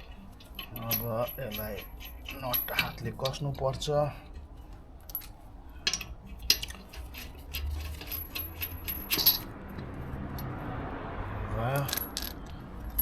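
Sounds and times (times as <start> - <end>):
metal wheel nuts clinking: 0.0 - 10.6, 11.6 - 13.0.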